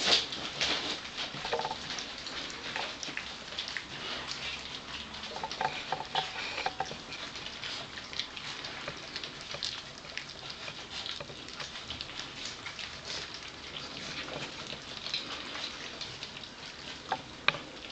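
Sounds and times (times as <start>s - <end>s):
puppies lapping and chewing: 0.0s - 17.9s.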